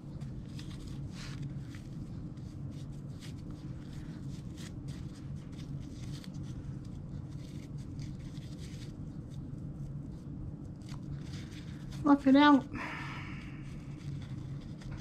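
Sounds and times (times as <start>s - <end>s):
fabric ribbon rustling: 0.0s - 12.7s, 13.5s - 15.0s
steady low hum: 0.0s - 15.0s.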